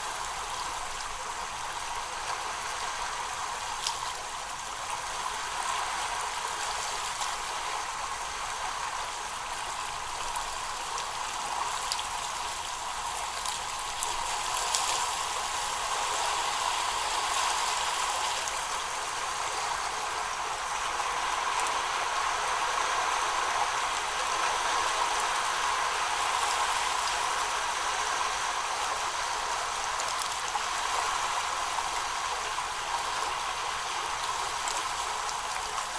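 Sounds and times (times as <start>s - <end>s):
rushing water-like noise: 0.0s - 35.9s.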